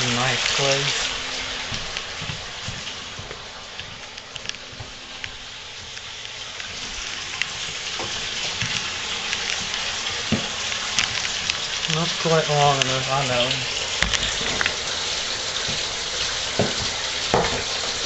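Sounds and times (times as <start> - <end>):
tap running into bathtub: 0.0 - 18.0.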